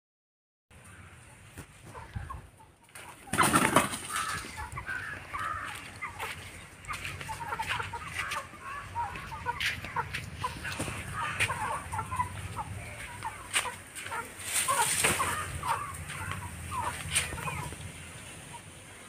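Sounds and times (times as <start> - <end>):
chickens clucking and peeping: 0.8 - 19.0.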